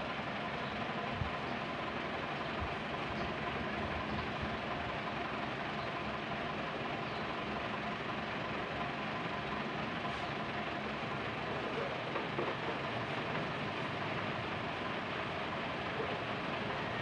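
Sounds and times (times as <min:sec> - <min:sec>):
engine-like hum: 0:00.0 - 0:17.0.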